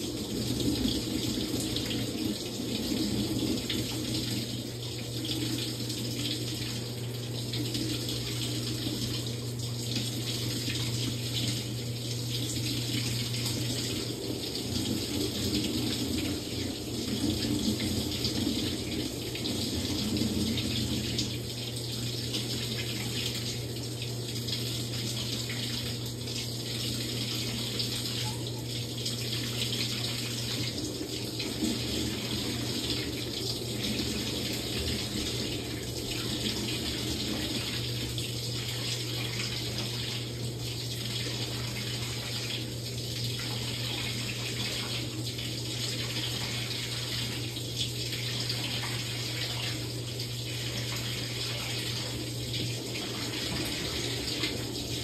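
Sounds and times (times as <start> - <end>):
water splashing in washing machine: 0.0 - 55.0.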